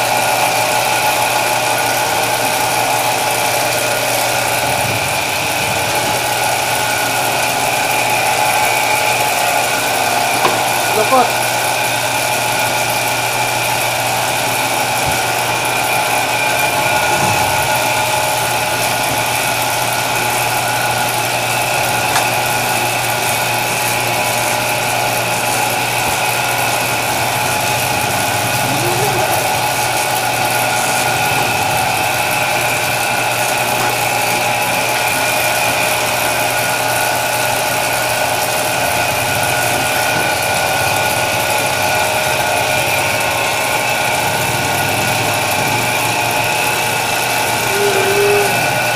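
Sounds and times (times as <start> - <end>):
dough roller motor humming: 0.0 - 48.9.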